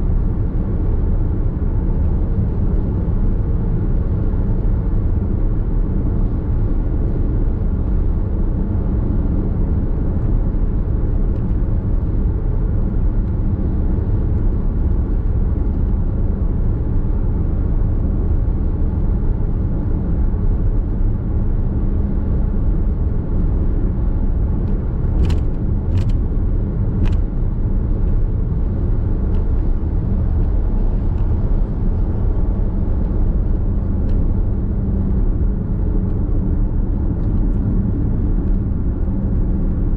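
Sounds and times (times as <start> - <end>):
road and tyre rumble in car: 0.0 - 39.9.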